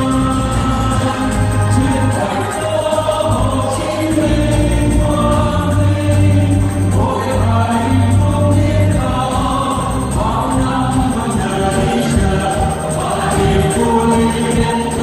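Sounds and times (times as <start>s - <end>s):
choir singing: 0.0s - 15.0s
musical accompaniment: 0.0s - 15.0s.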